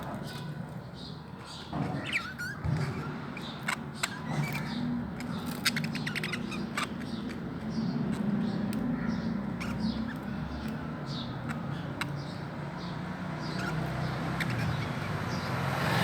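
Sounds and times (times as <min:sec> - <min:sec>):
bird chicks squeaky chirps: 0:00.0 - 0:16.0
scratching: 0:00.0 - 0:16.0.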